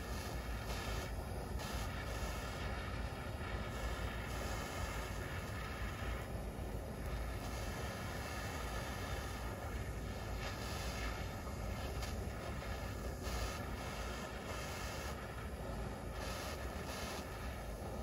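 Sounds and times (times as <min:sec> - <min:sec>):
torch flame hissing: 0:00.0 - 0:18.0.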